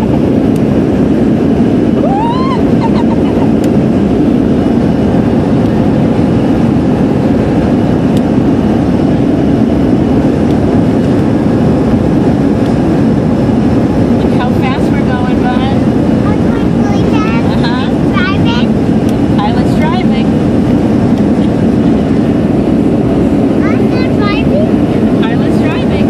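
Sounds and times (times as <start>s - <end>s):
airliner cabin engine noise: 0.0s - 26.0s.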